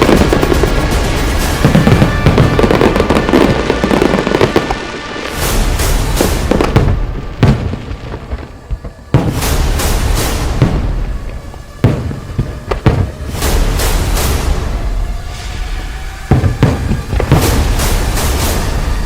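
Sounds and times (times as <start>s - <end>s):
fireworks crackling and banging: 0.0s - 19.0s
music: 0.0s - 19.0s.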